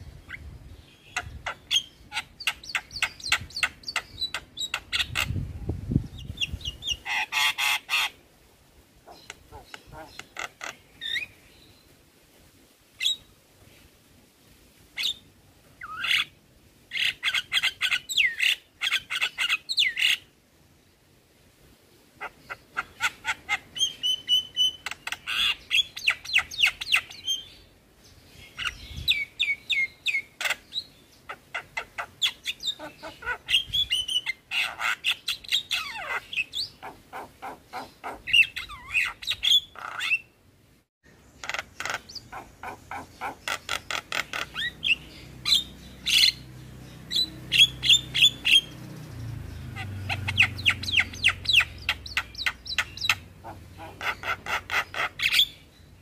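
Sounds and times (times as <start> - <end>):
myna bird singing: 0.2 - 8.2, 9.0 - 11.9, 15.0 - 20.3, 22.2 - 40.4, 41.1 - 56.0.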